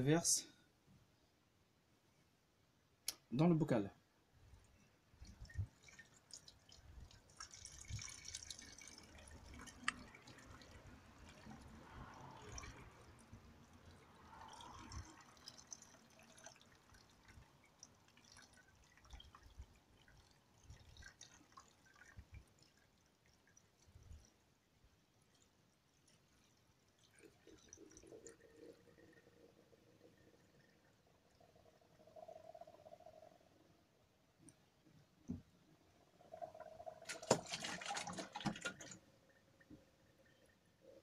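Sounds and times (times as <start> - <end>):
liquid trickling into tank: 4.4 - 33.6, 35.3 - 40.9
small drips: 4.5 - 33.4, 34.4 - 40.8.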